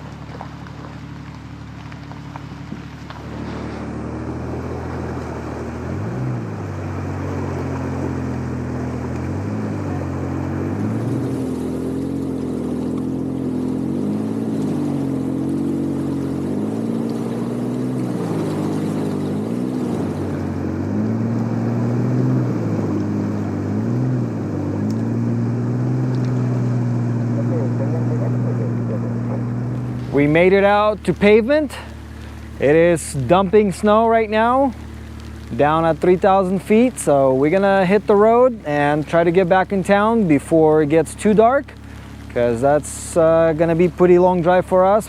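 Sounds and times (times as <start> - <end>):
vehicle engine revving: 0.0 - 45.0.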